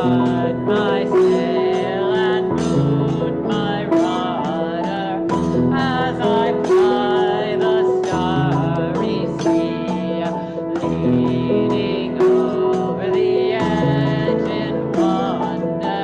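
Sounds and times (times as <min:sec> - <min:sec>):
instrumental accompaniment: 0:00.0 - 0:16.0
person singing a hymn: 0:00.0 - 0:16.0.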